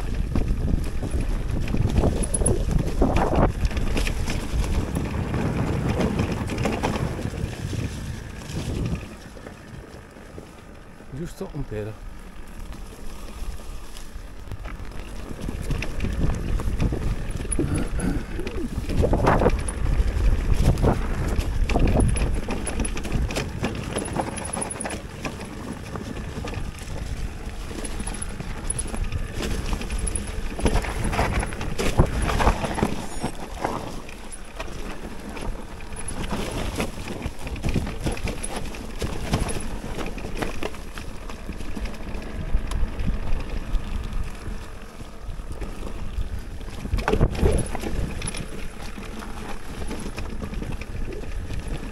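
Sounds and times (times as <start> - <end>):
wind on microphone: 0.0 - 9.4, 13.4 - 40.3, 41.6 - 51.9
bike rattling and knocking: 0.0 - 51.9
bike tyre rumble: 0.0 - 51.9.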